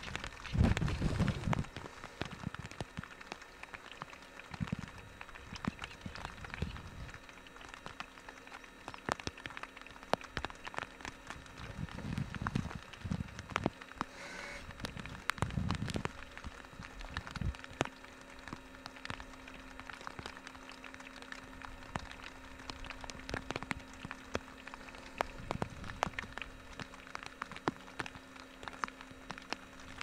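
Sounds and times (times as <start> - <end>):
faint low hum: 0.0 - 30.0
raindrops ticking: 0.0 - 30.0.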